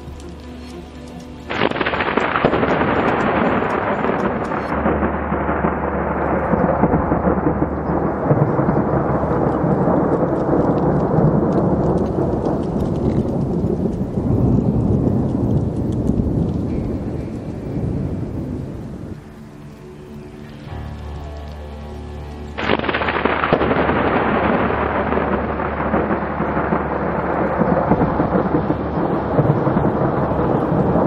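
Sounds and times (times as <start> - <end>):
thunder crack and rumble: 1.5 - 19.8, 20.4 - 31.0.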